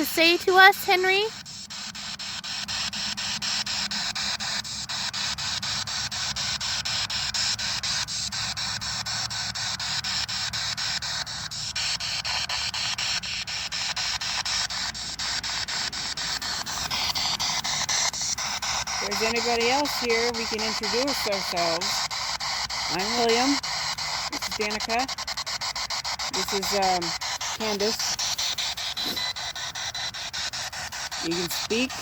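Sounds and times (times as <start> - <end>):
quick regular clicks: 0.0 - 32.0
radio static hiss: 0.0 - 32.0.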